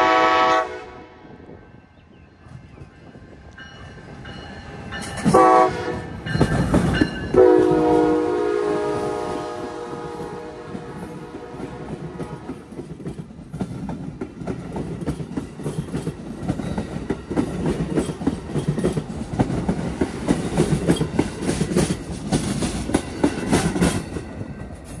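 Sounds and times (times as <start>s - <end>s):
train coaches rumbling past: 0.0s - 25.0s.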